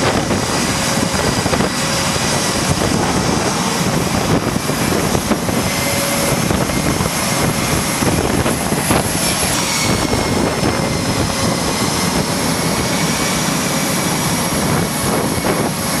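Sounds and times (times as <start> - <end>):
jet engines roaring with turbine whine: 0.0 - 16.0.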